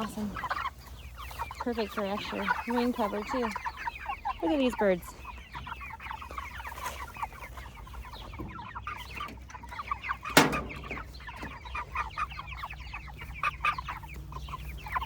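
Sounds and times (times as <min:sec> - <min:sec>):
chickens chirping and clucking: 0:00.0 - 0:15.0.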